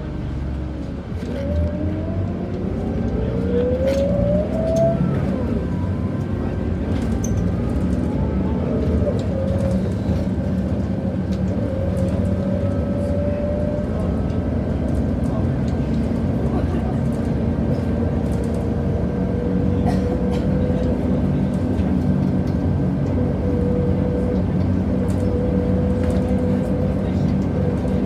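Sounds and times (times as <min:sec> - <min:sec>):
bus drivetrain whine: 0:00.0 - 0:28.0
bus engine rumbling: 0:00.0 - 0:28.0.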